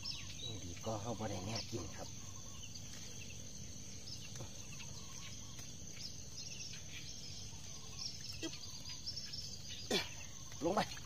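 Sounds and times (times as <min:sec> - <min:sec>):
high insect drone: 0:00.0 - 0:11.0
small birds chirping: 0:00.0 - 0:11.0.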